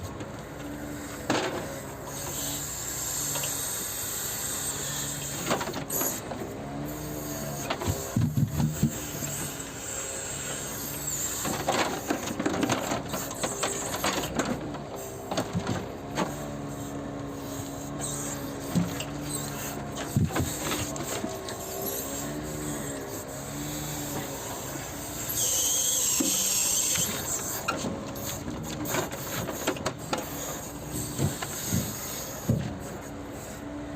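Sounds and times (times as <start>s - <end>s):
hydraulic crane working: 0.0s - 33.9s.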